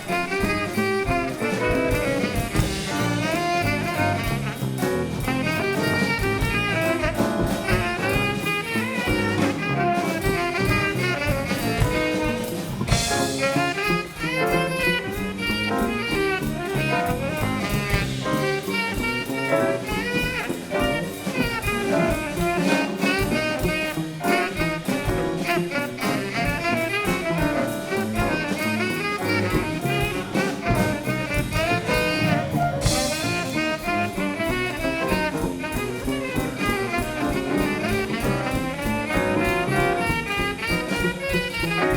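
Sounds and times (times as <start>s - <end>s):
drum kit: 0.0s - 41.9s
live jazz band playing: 0.0s - 41.9s
saxophone and horns melody: 0.0s - 41.9s.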